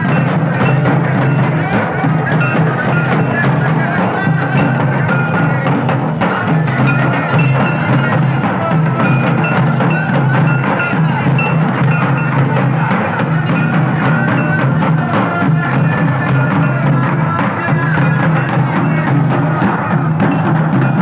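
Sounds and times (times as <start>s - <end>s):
barrel drums playing dance rhythm: 0.0s - 21.0s.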